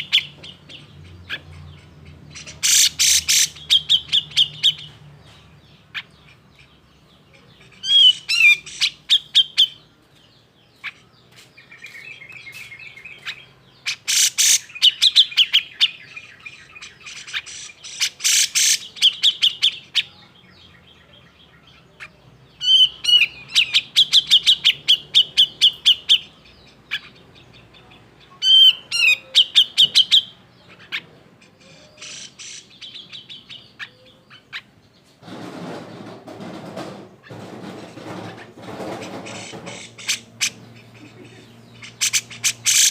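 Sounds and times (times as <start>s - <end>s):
bird chattering calls: 0.0s - 9.9s, 10.7s - 34.8s, 37.1s - 42.9s.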